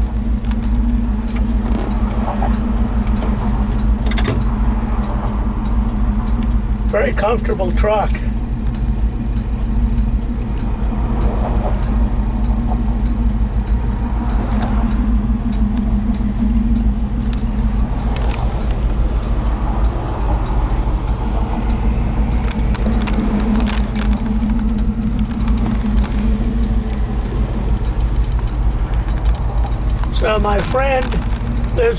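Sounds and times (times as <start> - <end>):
road noise: 0.0 - 31.9
truck engine running: 0.0 - 31.9.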